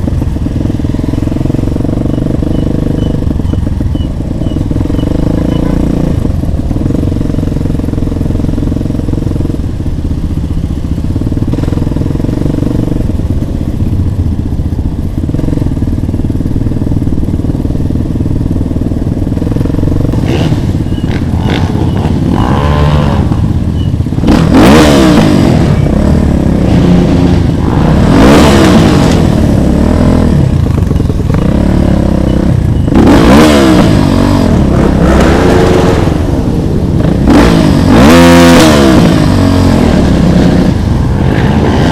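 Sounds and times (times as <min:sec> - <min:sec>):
motorcycle engines revving: 0:00.0 - 0:41.9
small motorcycle engines idling: 0:00.0 - 0:41.9.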